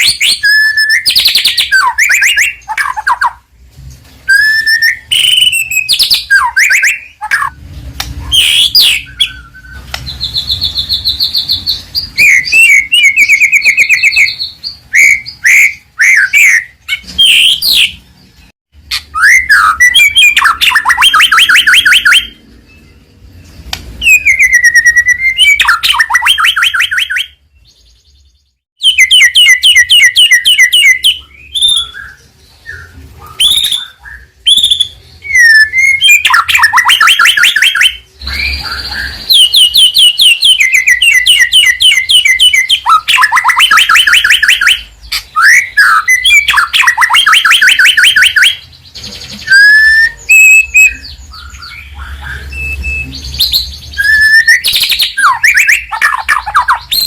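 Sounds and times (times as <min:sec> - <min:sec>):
songbird singing loudly: 0:00.0 - 0:03.5, 0:04.2 - 0:57.0.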